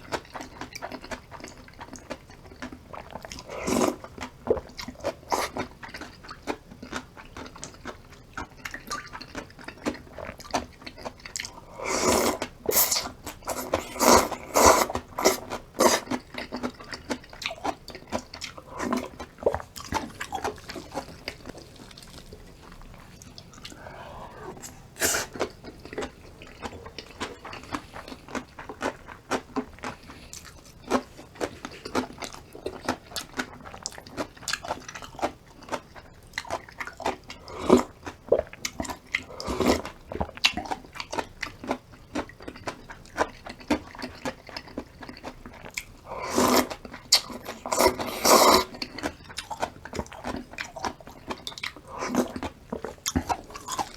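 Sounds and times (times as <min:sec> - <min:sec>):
person chewing and crunching food: 0:00.0 - 0:53.9.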